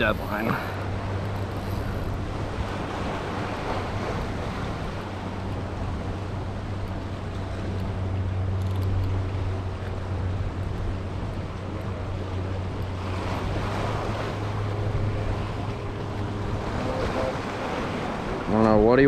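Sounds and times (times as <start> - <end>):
low hum: 0.0 - 19.0
surf washing over rocks: 0.0 - 19.0.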